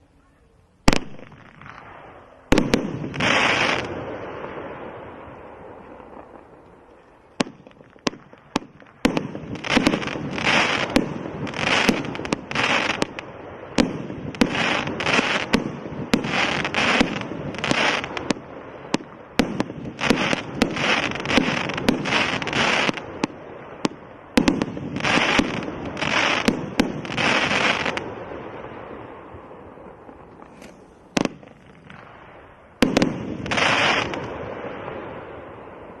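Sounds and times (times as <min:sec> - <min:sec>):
firework pops with hissing bursts: 0:00.8 - 0:36.0.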